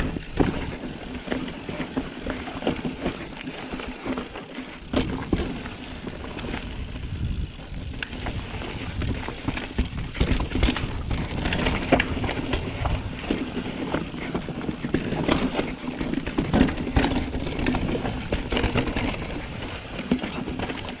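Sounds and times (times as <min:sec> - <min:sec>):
bike frame and chain rattling: 0:00.0 - 0:21.0
bike tyres on dirt: 0:00.0 - 0:21.0.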